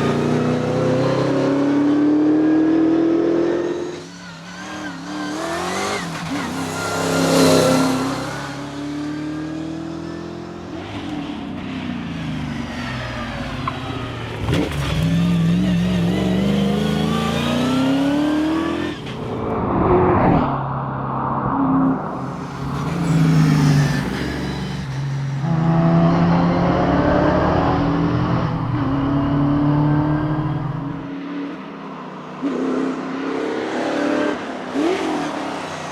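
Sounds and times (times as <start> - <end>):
rally car engine accelerating: 0.0 - 31.6.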